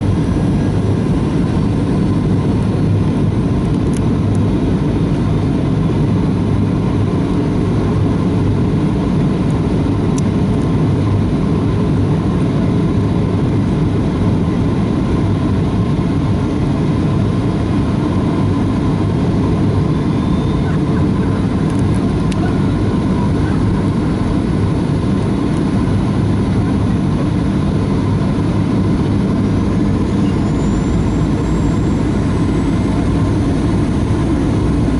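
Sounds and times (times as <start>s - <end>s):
airplane cabin jet engine rumble: 0.0s - 34.9s.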